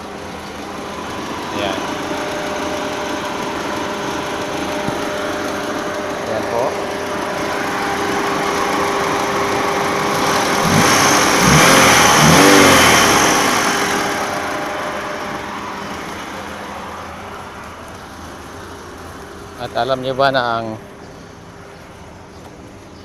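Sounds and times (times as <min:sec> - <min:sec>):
car engine revving: 0:00.0 - 0:22.8.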